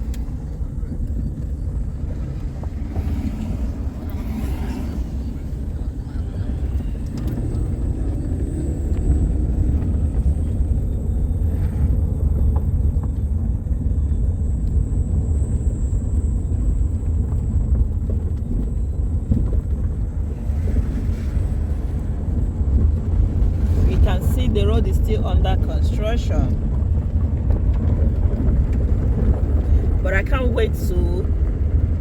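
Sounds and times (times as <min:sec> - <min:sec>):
vehicle driving on road: 0:00.0 - 0:32.0.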